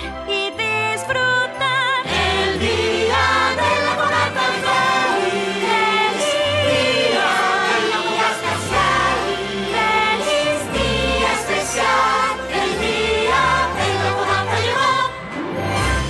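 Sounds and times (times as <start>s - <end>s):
choir singing: 2.0s - 16.0s.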